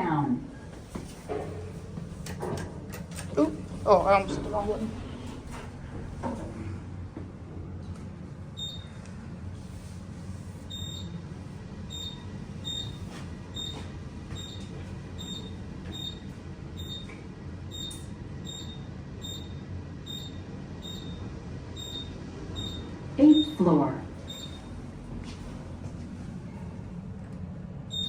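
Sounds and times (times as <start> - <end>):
elevator low rumble: 0.0 - 28.0.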